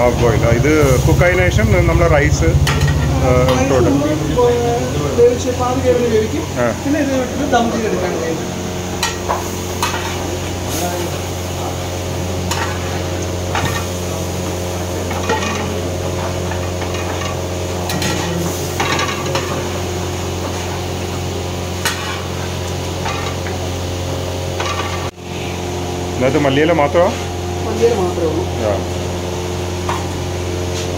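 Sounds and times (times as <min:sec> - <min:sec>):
low kitchen hum: 0:00.0 - 0:30.9.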